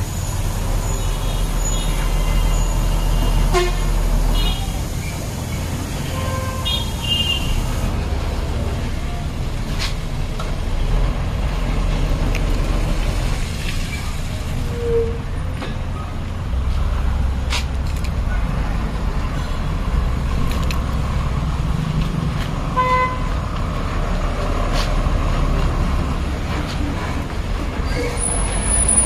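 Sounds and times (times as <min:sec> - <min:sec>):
diesel lorry engine rumbling: 0:00.0 - 0:29.0.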